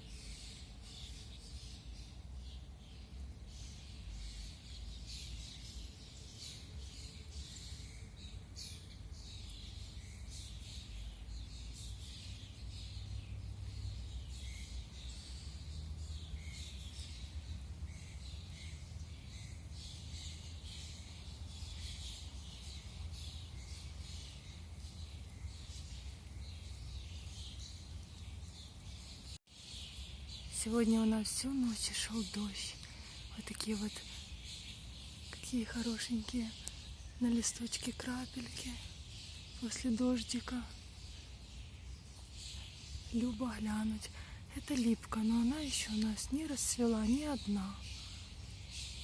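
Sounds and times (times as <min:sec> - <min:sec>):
songbirds chirping: 0:00.0 - 0:49.0.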